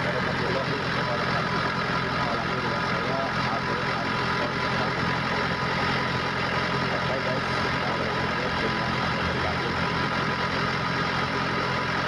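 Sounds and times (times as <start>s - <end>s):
refrigeration unit high whine: 0.0s - 12.0s
truck engine idling: 0.0s - 12.0s.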